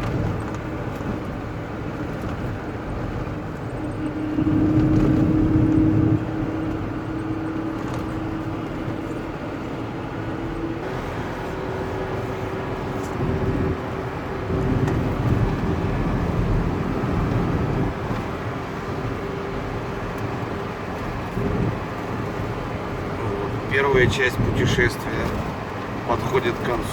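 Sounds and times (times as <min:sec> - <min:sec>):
car engine hum: 0:00.0 - 0:26.9
road rumble: 0:00.0 - 0:26.9.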